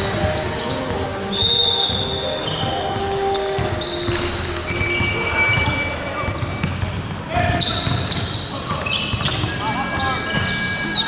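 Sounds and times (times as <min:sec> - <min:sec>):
indistinct voices: 0:00.0 - 0:11.0
sneakers squeaking: 0:00.0 - 0:11.0
basketball bouncing: 0:01.9 - 0:10.8.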